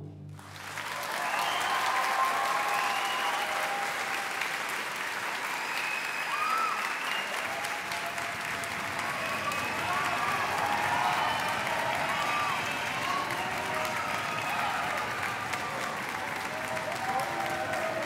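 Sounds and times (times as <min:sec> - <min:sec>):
audience applauding: 0:00.4 - 0:18.0.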